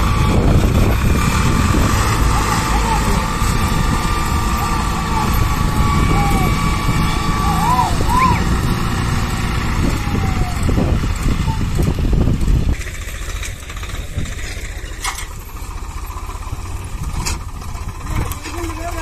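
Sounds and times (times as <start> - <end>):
diesel tractor engines revving: 0.0 - 19.0.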